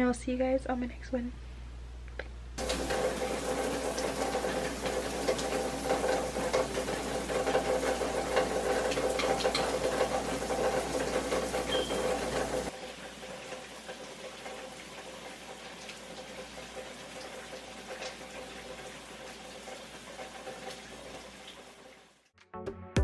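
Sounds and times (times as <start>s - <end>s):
shower spraying onto tile: 2.6s - 22.3s.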